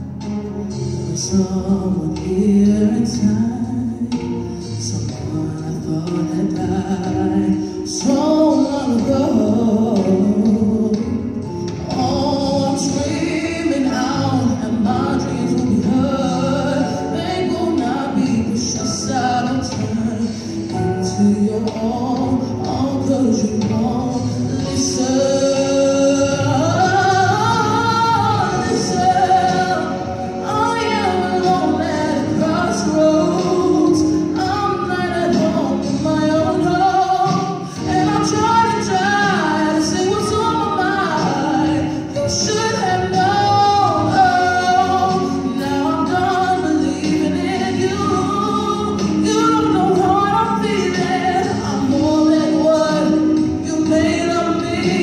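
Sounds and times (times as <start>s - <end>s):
girl singing a ballad: 0.0s - 55.0s
instrumental backing track: 0.0s - 55.0s.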